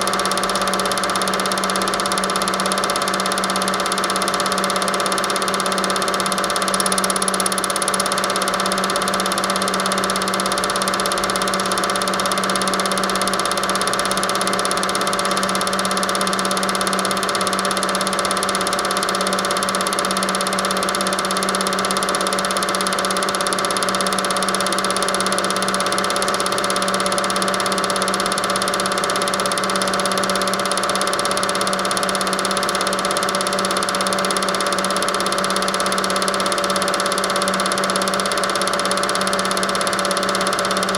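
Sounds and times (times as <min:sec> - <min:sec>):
film projector humming: 0:00.0 - 0:40.9.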